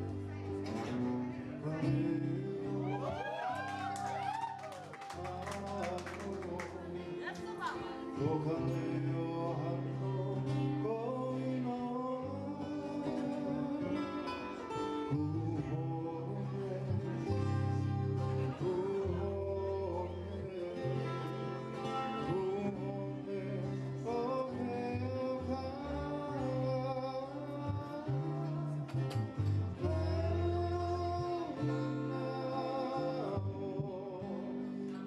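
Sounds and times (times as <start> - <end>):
acoustic guitar: 0.0 - 35.0
man singing: 0.0 - 35.0.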